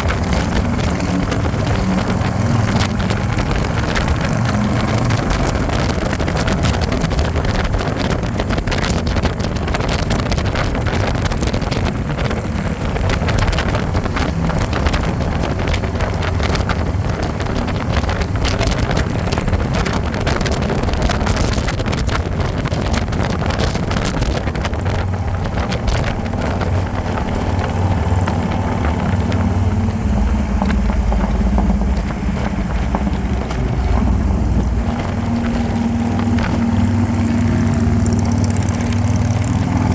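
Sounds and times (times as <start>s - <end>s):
motorcycle engine rumble: 0.0s - 39.9s
wind buffeting microphone: 0.0s - 39.9s.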